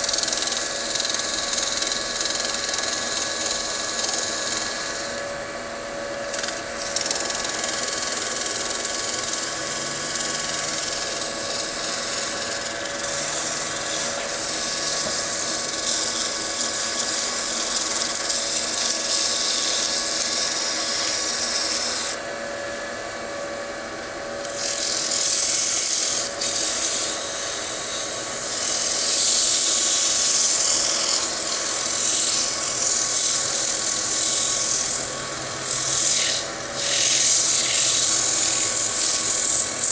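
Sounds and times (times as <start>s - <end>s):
wood lathe humming: 0.0s - 39.9s.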